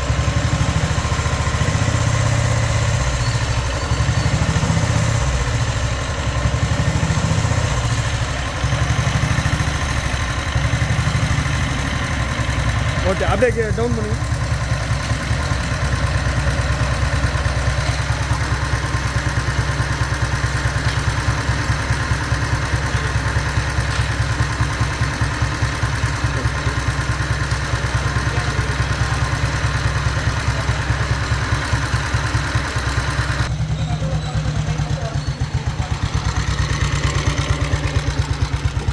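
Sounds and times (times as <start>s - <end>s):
diesel motorcycle engine idling: 0.0s - 38.9s.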